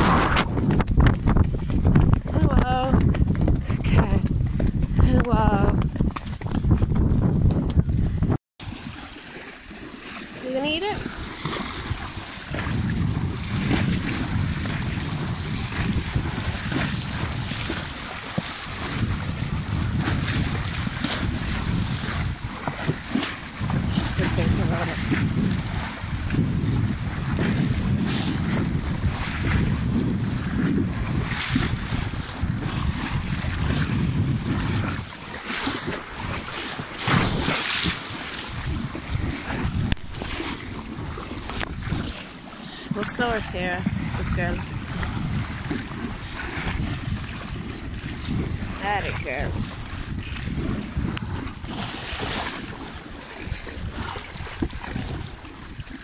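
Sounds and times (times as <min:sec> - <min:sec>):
wind on microphone: 0:00.0 - 0:09.1, 0:10.4 - 0:56.0
horses splashing through water: 0:00.0 - 0:56.0.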